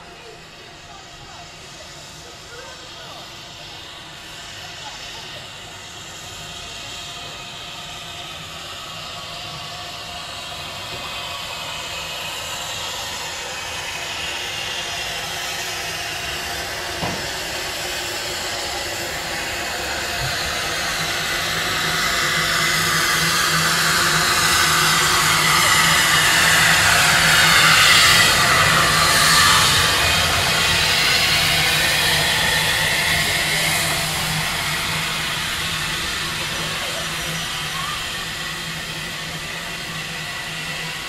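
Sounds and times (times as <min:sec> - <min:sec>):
steam locomotive hissing: 0:00.0 - 0:41.0.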